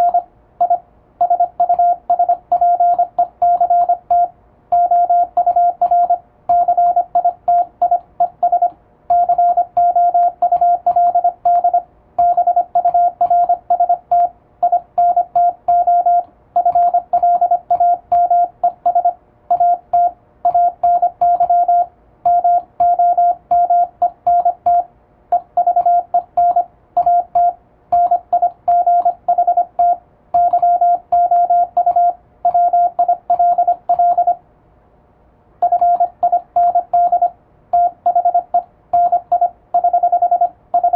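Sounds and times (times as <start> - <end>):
morse code beeps: 0.0 - 34.4, 35.6 - 40.9.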